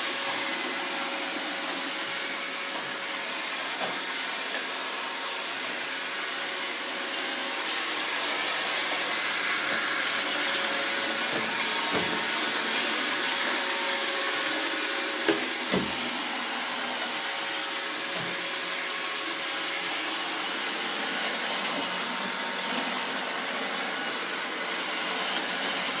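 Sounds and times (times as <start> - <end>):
robot vacuum whirring: 0.0 - 26.0.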